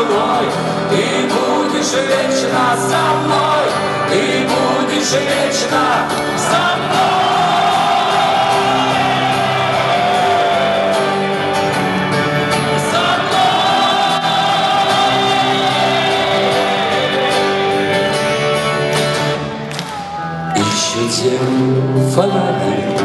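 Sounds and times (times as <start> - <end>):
live rock band music: 0.0 - 23.0.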